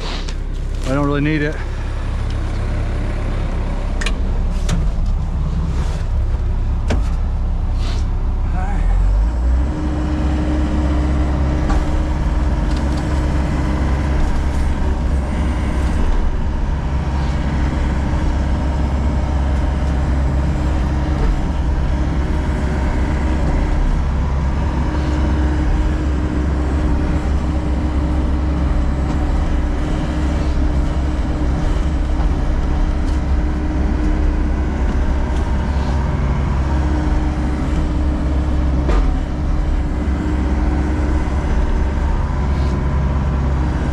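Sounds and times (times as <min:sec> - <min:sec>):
excavator diesel engine running: 0:00.0 - 0:43.9
steady mechanical whine: 0:00.0 - 0:43.9.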